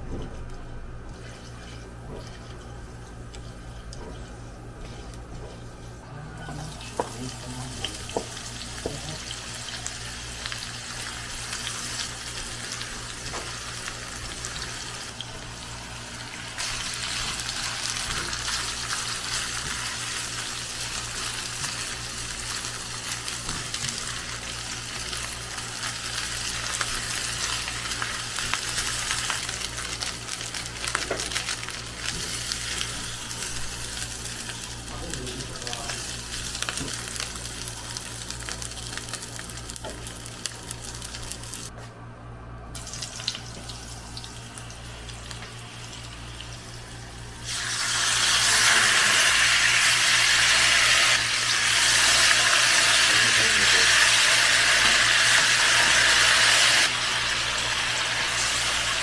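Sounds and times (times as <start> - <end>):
food sizzling in hot oil: 6.7 - 41.7, 42.8 - 59.0.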